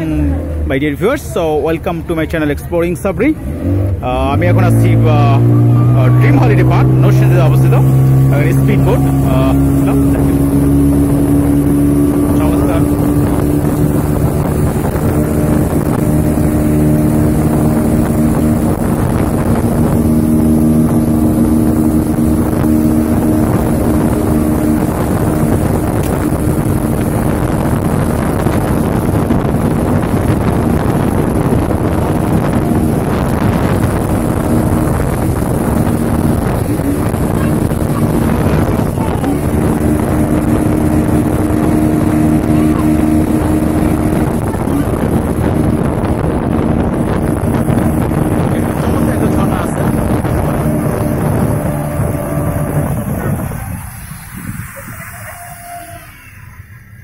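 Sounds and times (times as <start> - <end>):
rushing water and air: 0.0 - 57.0
speedboat engine running: 0.0 - 57.0.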